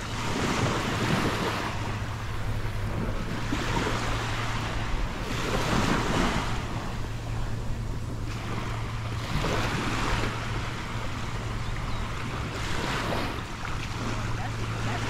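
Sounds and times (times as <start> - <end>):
steady low hum: 0.0 - 15.0
waves washing onto beach: 0.0 - 15.0
wind buffeting microphone: 0.0 - 15.0.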